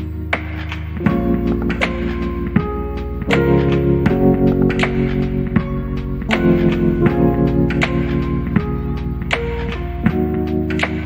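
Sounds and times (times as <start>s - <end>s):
light percussive beat: 0.0s - 11.0s
sustained chords: 1.1s - 10.5s.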